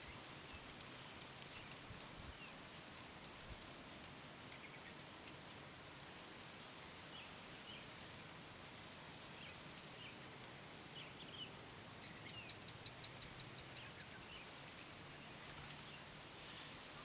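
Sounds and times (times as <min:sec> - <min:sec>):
small birds chirping: 0:00.0 - 0:03.0, 0:04.0 - 0:05.4, 0:06.3 - 0:08.1, 0:09.2 - 0:17.0.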